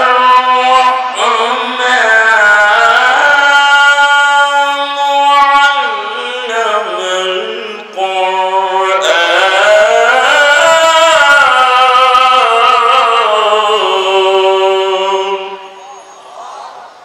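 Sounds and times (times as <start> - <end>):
man chanting recitation: 0.0 - 15.9.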